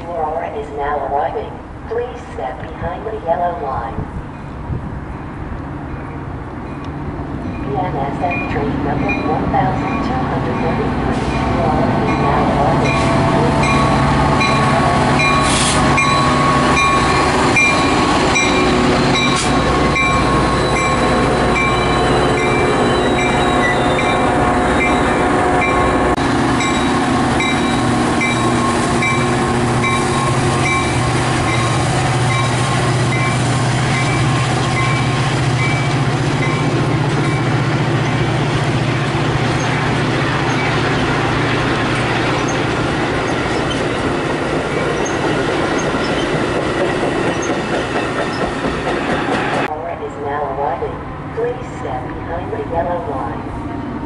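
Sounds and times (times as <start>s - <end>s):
train wheels rumbling on rails: 4.0s - 49.7s.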